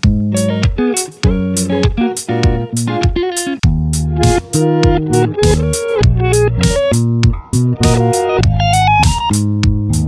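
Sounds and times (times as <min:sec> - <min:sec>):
plucked guitar music with beat: 0:00.0 - 0:10.0.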